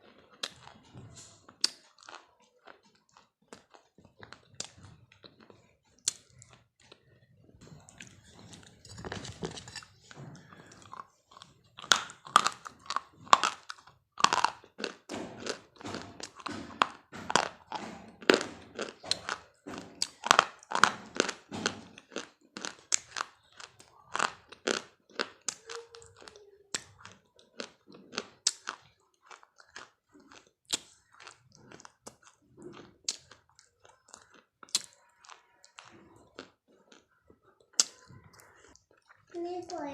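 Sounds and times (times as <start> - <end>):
person chewing crunchy food: 0.0 - 39.4.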